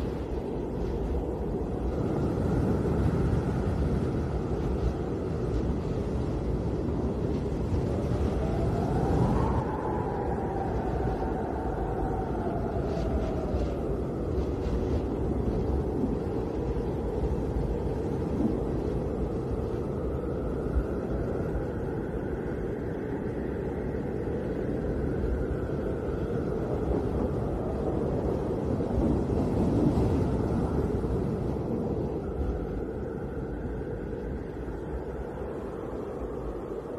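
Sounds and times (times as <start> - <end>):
blizzard wind rushing and whistling: 0.0 - 36.9.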